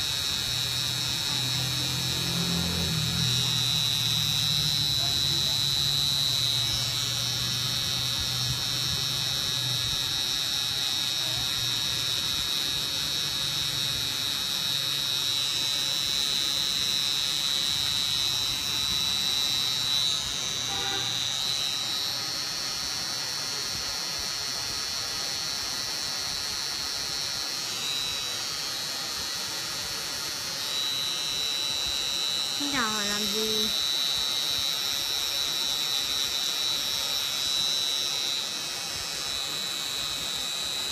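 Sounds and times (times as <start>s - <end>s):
tattoo pen whining: 0.0s - 40.9s.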